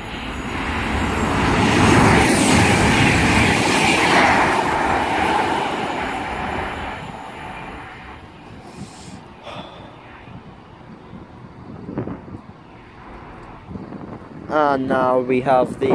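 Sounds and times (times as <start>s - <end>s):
train passing at speed: 0.0s - 15.9s.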